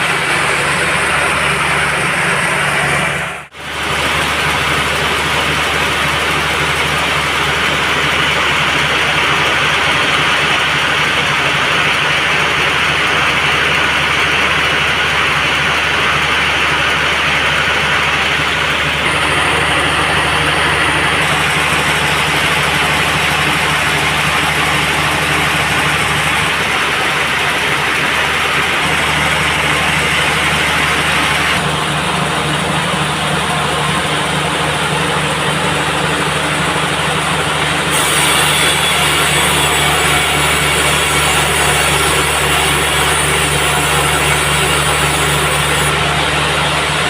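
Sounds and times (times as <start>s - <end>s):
band saw running: 0.0s - 47.0s
engine low drone: 0.0s - 47.0s.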